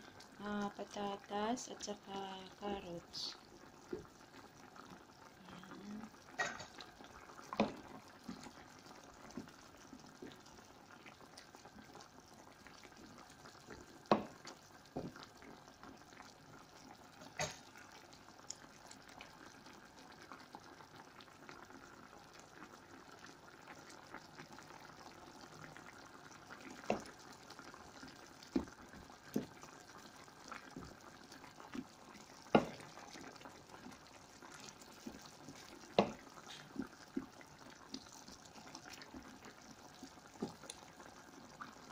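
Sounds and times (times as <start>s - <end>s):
curry bubbling in a pan: 0.0s - 41.9s.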